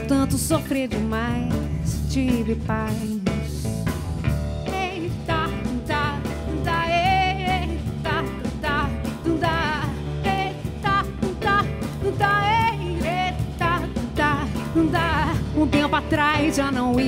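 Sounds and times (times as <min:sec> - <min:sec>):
woman singing: 0:00.0 - 0:03.8, 0:04.6 - 0:17.0
band accompaniment: 0:00.0 - 0:17.0.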